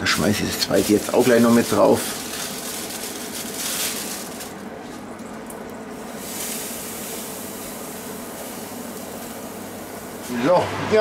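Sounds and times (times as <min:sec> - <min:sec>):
fans rushing with motor hum: 0:00.0 - 0:11.0.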